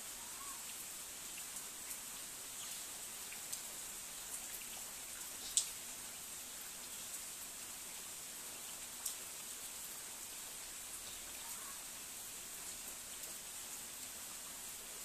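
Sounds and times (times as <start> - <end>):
rain hissing on leaves: 0.0 - 15.0.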